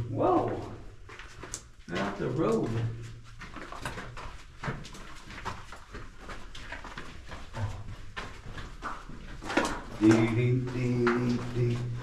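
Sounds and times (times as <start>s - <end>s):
footsteps in wet mud: 0.0s - 12.0s.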